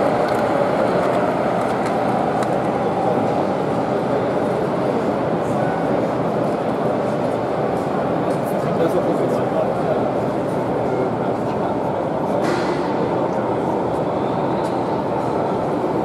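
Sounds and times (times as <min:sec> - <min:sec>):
exhibition hall background noise: 0:00.0 - 0:16.0.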